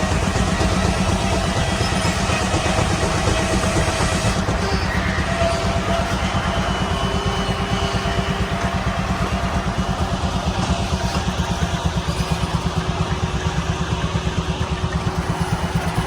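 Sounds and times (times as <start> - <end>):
old engine running under load: 0.0 - 16.0.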